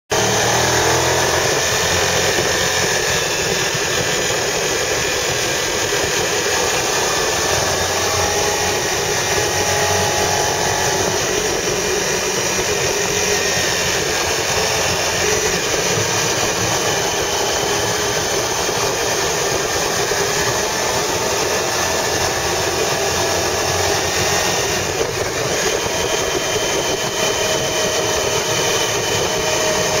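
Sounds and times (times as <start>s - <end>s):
car engine running: 0.1s - 30.0s.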